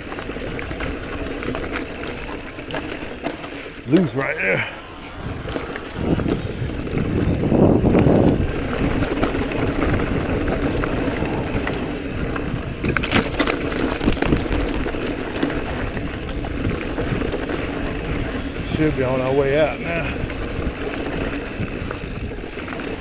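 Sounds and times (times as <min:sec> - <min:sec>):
bike tyre and wind rush: 0:00.0 - 0:23.0.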